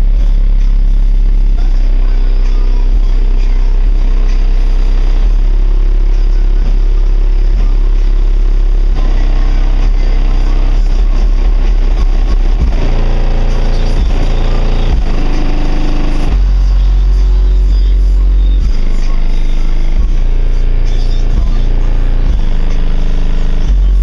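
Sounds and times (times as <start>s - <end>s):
bass-heavy rap music: 0.0s - 24.0s.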